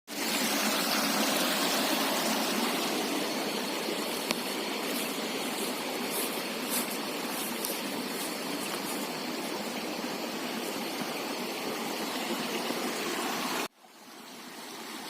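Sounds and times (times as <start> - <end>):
river water flowing: 0.1 - 15.0.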